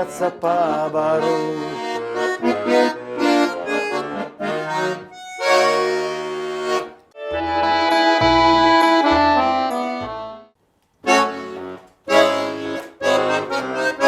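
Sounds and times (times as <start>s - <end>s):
button accordion playing: 0.0s - 14.0s.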